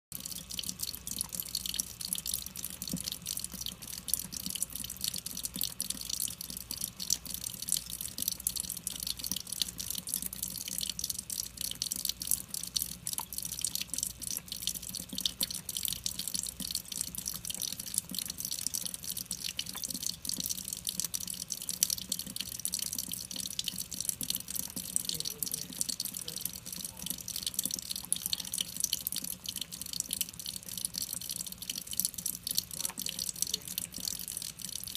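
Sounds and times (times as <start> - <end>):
cat lapping water: 0.1 - 34.9
water running from faucet: 0.1 - 34.9.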